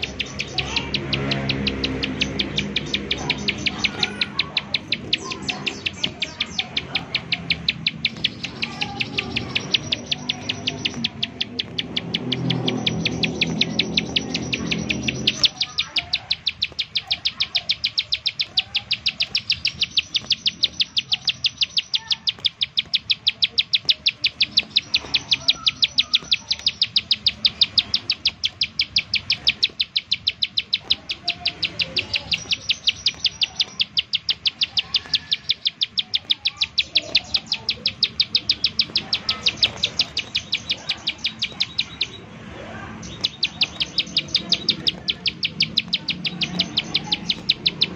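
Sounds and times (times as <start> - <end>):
bird calling sharp high notes: 0.0 - 47.9.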